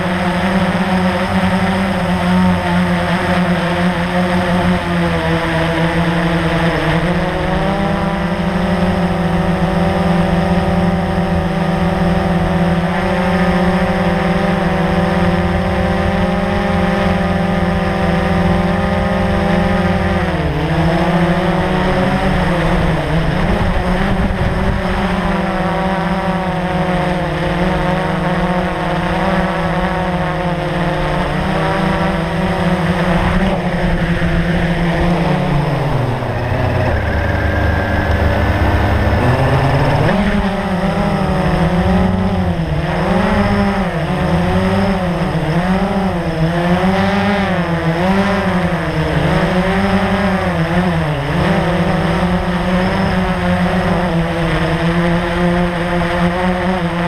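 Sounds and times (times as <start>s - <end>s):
quadcopter motors humming: 0.0s - 57.0s.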